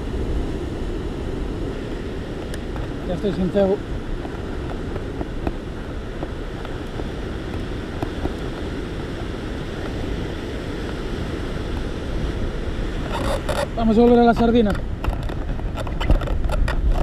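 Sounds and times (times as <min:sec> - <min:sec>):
sea surf on rocky shore: 0:00.0 - 0:17.0
wind on microphone: 0:00.0 - 0:17.0.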